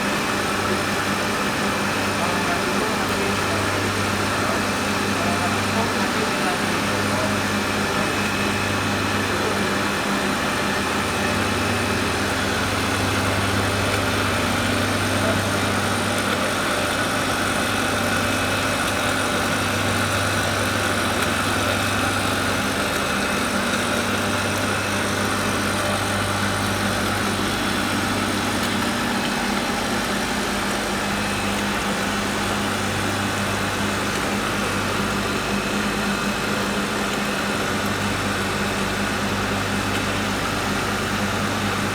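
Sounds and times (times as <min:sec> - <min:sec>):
electric motor running steadily: 0:00.0 - 0:41.9.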